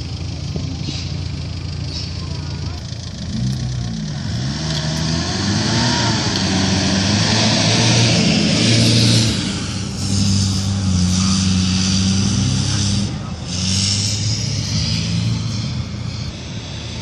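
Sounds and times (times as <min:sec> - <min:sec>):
off-road vehicle engine revving: 0:00.0 - 0:17.0
tyres churning through mud: 0:00.0 - 0:17.0.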